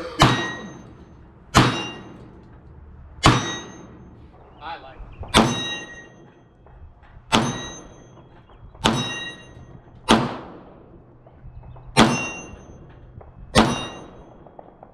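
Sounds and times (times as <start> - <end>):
pistol shots with echo: 0.0 - 2.4, 3.2 - 4.6, 5.2 - 6.7, 7.3 - 14.9.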